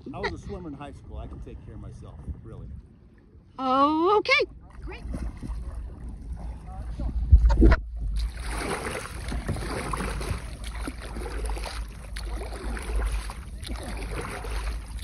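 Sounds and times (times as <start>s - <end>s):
water lapping and splashing: 0.0s - 15.0s
wind rumble on microphone: 0.0s - 15.0s.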